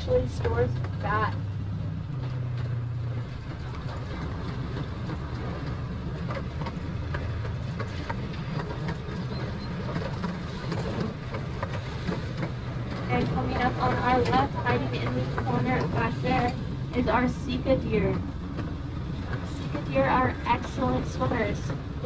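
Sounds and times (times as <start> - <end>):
miniature train engine hum: 0.0 - 22.0
ride rumble: 0.0 - 22.0.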